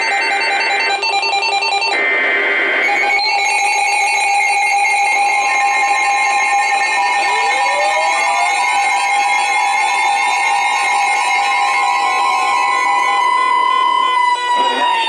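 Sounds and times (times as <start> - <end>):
pulsing emergency alert tones: 0.0 - 2.0, 2.8 - 15.0.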